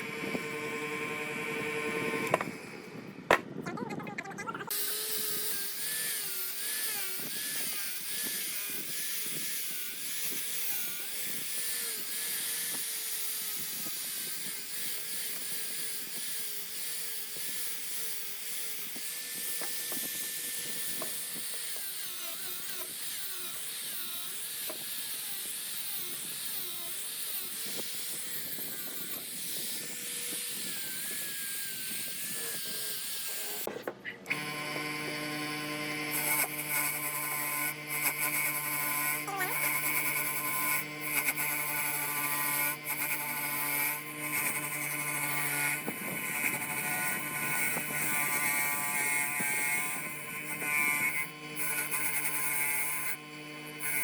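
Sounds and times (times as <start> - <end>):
small electric power tool running: 0.0 - 3.4, 4.7 - 54.0
steady electrical buzz: 0.0 - 3.7, 4.7 - 54.0.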